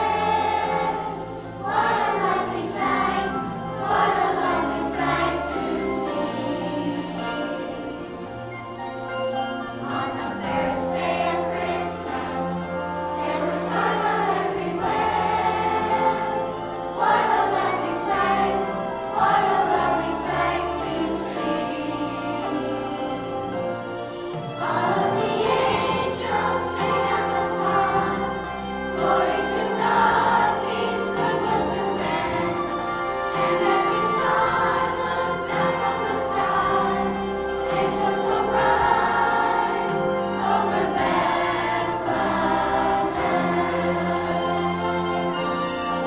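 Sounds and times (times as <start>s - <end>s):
children's choir singing: 0.0s - 46.0s
instrumental accompaniment: 0.0s - 46.0s.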